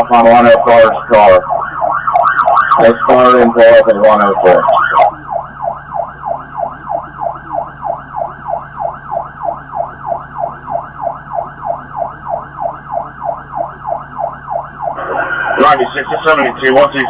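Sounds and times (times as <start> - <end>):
police siren yelping: 0.0 - 17.0.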